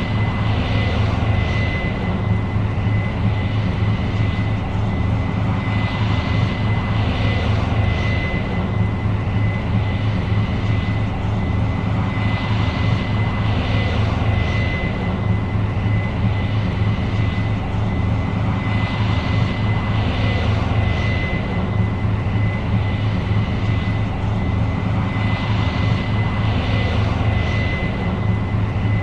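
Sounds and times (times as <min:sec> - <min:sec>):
combine engine drone: 0:00.0 - 0:29.0
steady high whine: 0:00.0 - 0:29.0.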